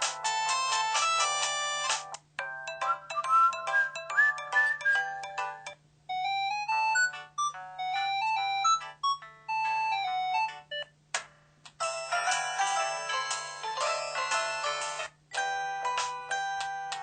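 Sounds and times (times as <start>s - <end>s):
polyphonic phone ringtone melody: 0.2s - 10.9s, 11.8s - 17.0s.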